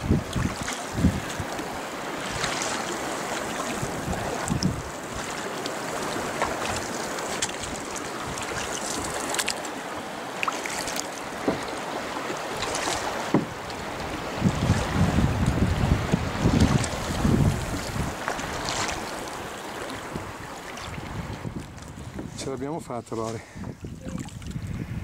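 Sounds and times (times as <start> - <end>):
wind buffeting microphone: 0.0 - 9.4, 11.3 - 25.0
water drips and small splashes: 0.0 - 15.8, 16.5 - 22.3, 23.4 - 24.9
water lapping against kayak hull: 0.0 - 25.0.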